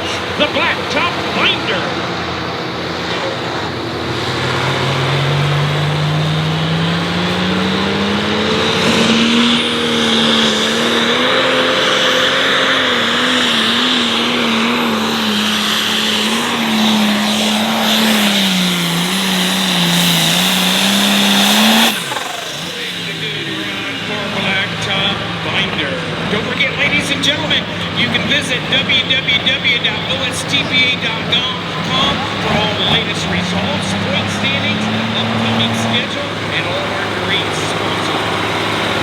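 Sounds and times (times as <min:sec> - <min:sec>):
diesel engine at full throttle: 0:00.0 - 0:39.0.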